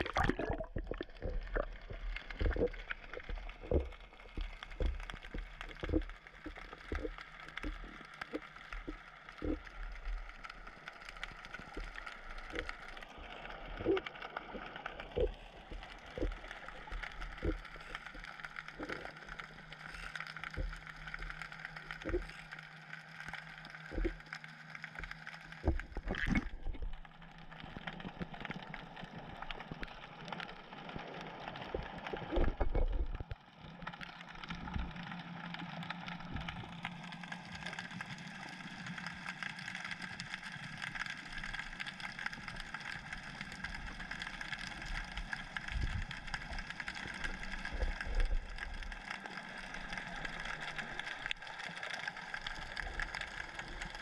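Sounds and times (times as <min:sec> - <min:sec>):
faint crackle: 0:00.0 - 0:54.0
underwater low hum: 0:00.0 - 0:54.0.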